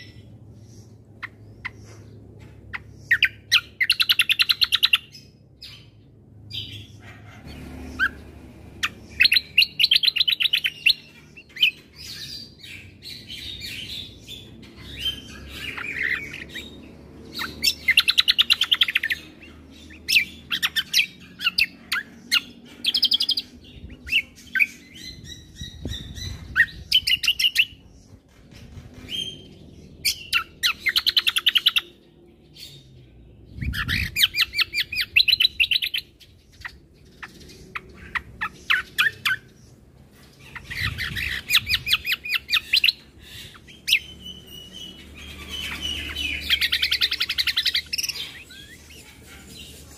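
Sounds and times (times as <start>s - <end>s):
songbird trilling and chirping: 0.0s - 49.9s.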